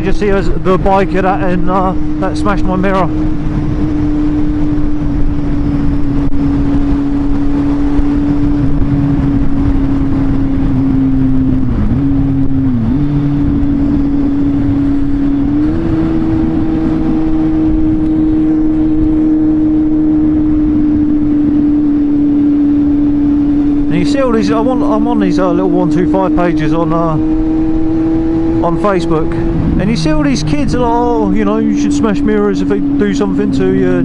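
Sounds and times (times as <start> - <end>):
heavy wind rush: 0.0 - 34.0
motorcycle engine running: 0.0 - 34.0.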